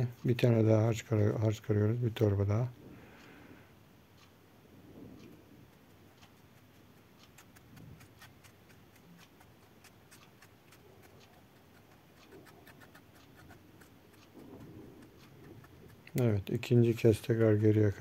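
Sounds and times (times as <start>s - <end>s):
faint irregular clicks: 0.0s - 18.0s.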